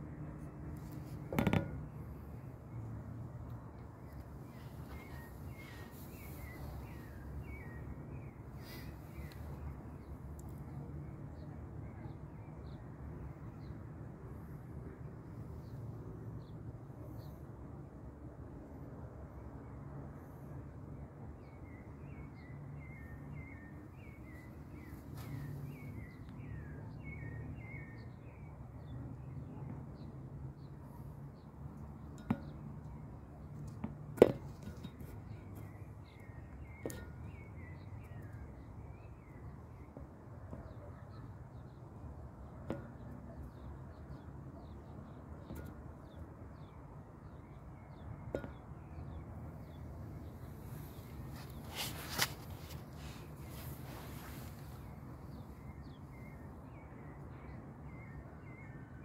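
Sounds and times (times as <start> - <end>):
faint birds chirping: 0.4 - 13.8, 20.2 - 33.8, 34.5 - 59.0.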